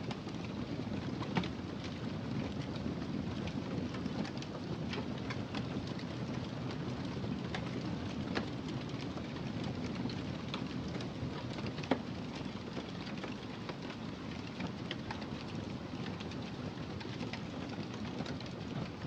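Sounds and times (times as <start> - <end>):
wood fire crackling and popping: 0.1 - 19.0.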